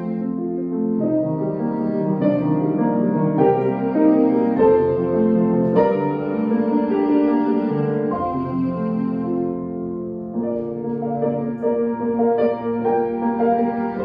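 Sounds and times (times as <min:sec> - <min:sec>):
bowed cello notes: 0:00.0 - 0:14.0
piano chords: 0:00.0 - 0:14.0.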